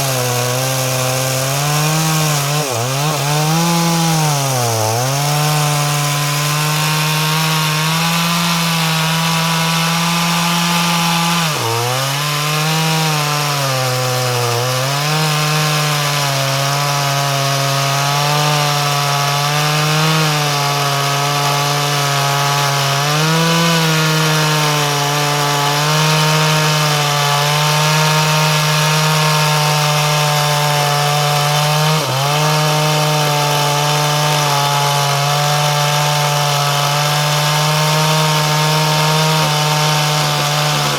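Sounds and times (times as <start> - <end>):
chainsaw engine at high revs: 0.0 - 40.9.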